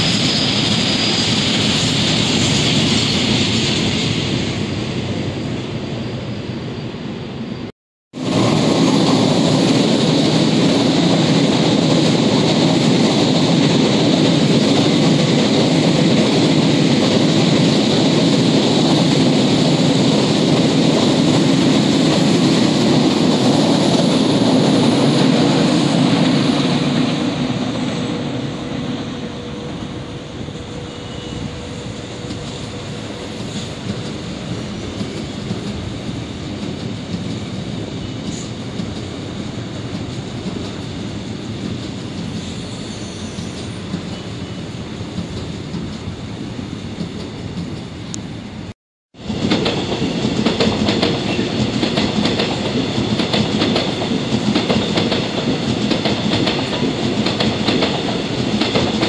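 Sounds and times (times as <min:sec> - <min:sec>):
train rumbling on tracks: 0:00.0 - 0:59.0.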